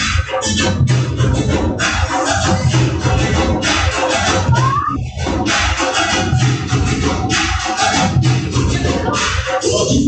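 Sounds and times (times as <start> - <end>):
dance music with strong beat: 0.0 - 10.0.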